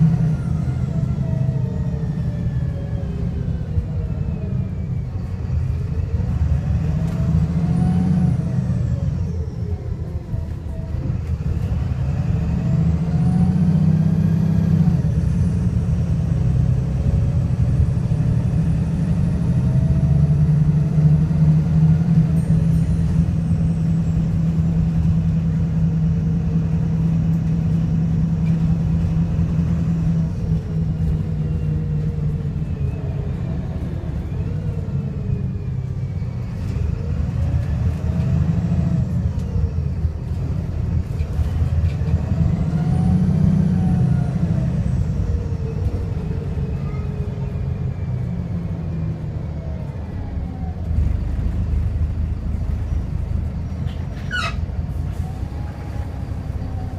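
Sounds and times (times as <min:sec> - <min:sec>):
misfiring bus diesel engine: 0:00.0 - 0:56.9.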